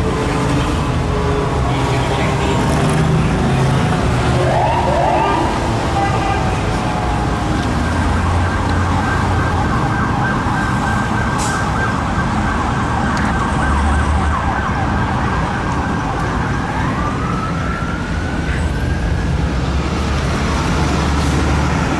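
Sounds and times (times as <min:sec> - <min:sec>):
fire engine sirens wailing: 0:00.0 - 0:21.9
truck engines rumbling: 0:00.0 - 0:21.9.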